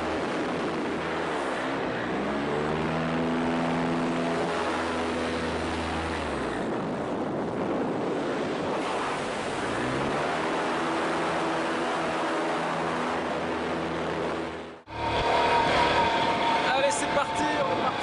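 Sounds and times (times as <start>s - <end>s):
paramotor engine running: 0.0s - 18.0s
wind rush: 0.0s - 18.0s.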